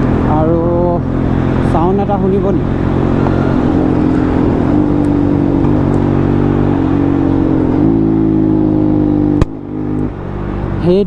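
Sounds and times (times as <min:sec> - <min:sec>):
motorcycle engine running loudly: 0:00.0 - 0:11.0.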